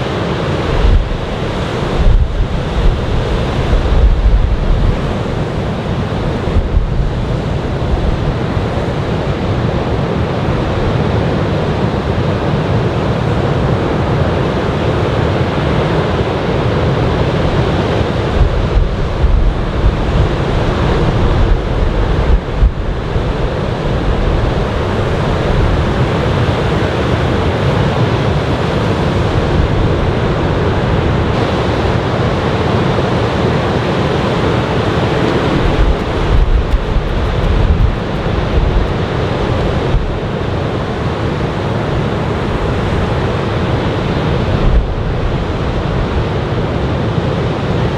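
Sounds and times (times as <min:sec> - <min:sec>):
wind buffeting microphone: 0:00.0 - 0:14.6, 0:16.1 - 0:46.9
surf breaking ashore: 0:00.0 - 0:47.9.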